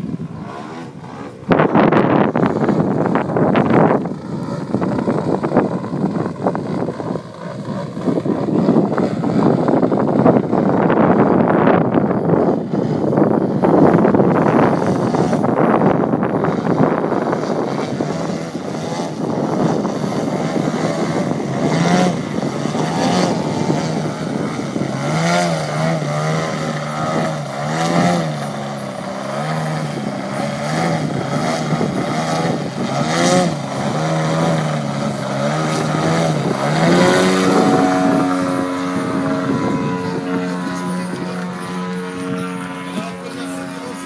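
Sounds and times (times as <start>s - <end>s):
model plane engine and propeller: 0.0s - 44.0s.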